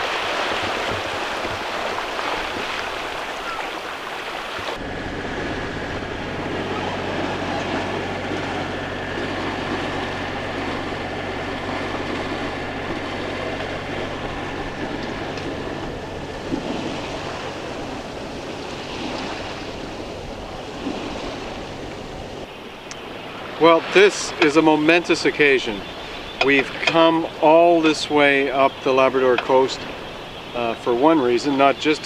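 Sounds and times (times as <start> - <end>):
boat engine droning: 0.0 - 32.0
water washing on a shore: 0.0 - 32.0.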